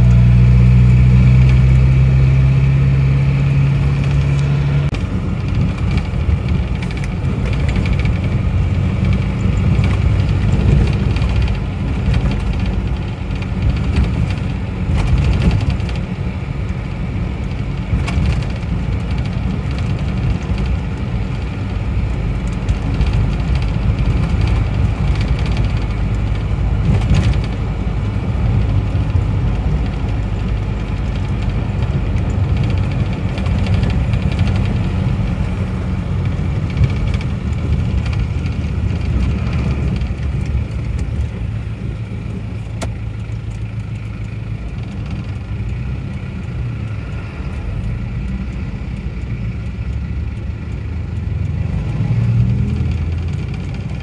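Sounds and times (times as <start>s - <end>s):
road rumble from tyres: 0.0s - 54.0s
van engine hum: 0.0s - 54.0s.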